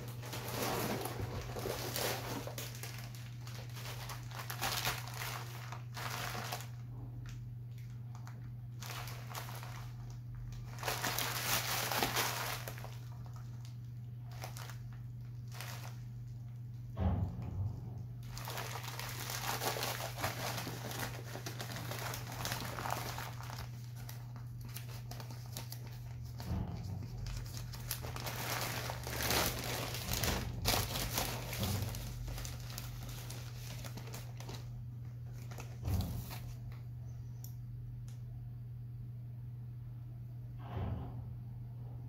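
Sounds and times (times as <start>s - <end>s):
plastic bag crinkling: 0.0s - 16.8s, 18.2s - 36.8s
steady low hum: 0.0s - 42.0s.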